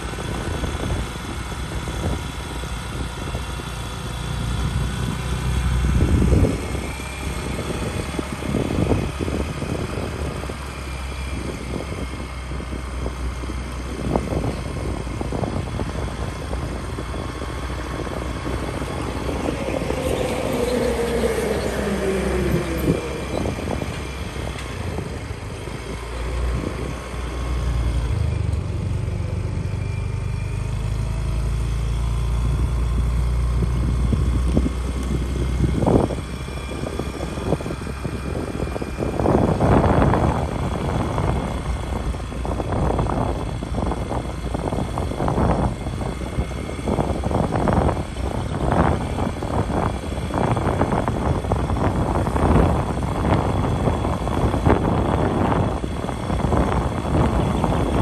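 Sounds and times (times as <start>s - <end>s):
vehicle engine and road noise: 0.0s - 58.0s
wind rumble on microphone: 0.0s - 58.0s.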